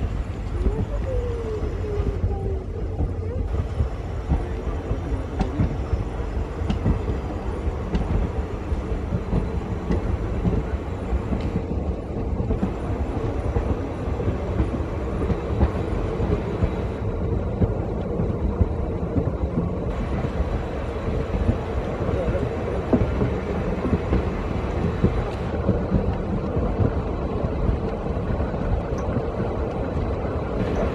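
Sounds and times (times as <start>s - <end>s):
diesel locomotive rumbling: 0.0s - 30.9s.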